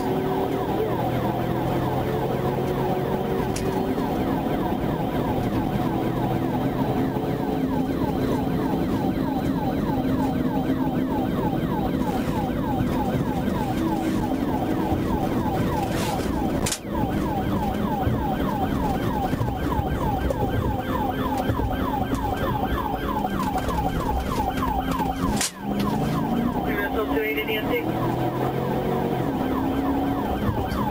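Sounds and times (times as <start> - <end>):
car engine and road noise: 0.0 - 30.9
police siren yelping: 0.0 - 30.9.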